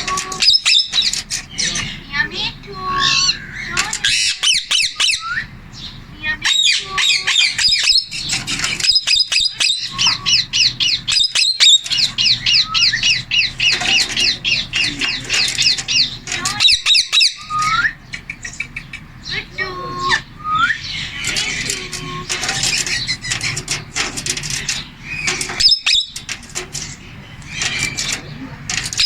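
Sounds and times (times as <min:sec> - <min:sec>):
parakeet squawking and chattering: 0:00.0 - 0:29.0.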